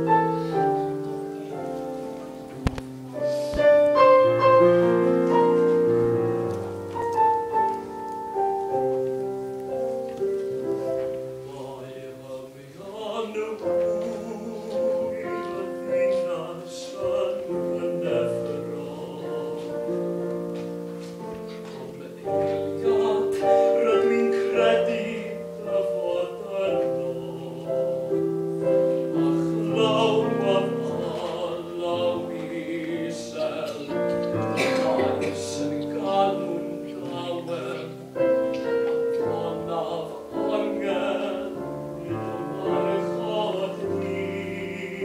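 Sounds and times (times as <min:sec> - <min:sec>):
classical singing voice with vibrato: 0:00.0 - 0:45.0
piano accompaniment: 0:00.0 - 0:45.0.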